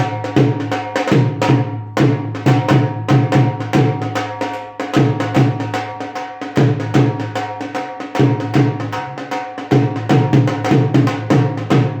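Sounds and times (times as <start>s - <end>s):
dhol drumming: 0.0s - 12.0s.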